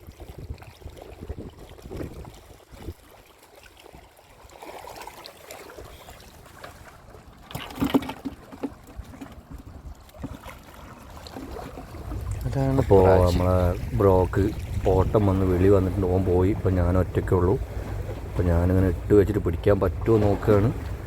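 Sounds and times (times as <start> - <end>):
small waves at shoreline: 0.0 - 21.0.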